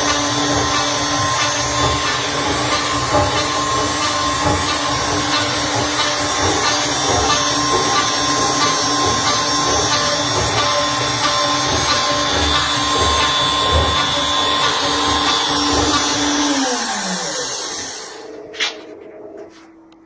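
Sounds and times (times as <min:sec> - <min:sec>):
router spindle whining: 0:00.0 - 0:18.5.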